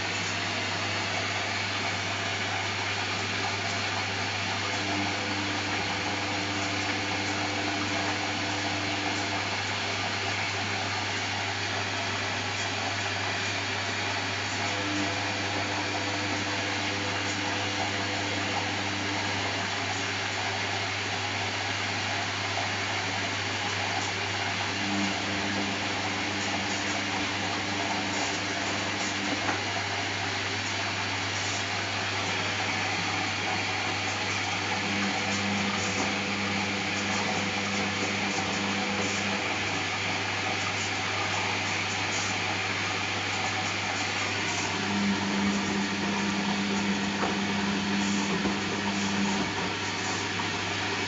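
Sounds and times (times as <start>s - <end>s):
washing machine spinning: 0.0s - 51.0s.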